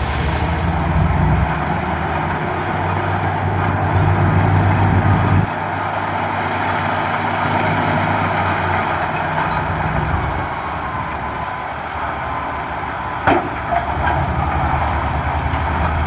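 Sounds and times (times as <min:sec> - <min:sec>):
heavy diesel engines running: 0:00.0 - 0:16.0.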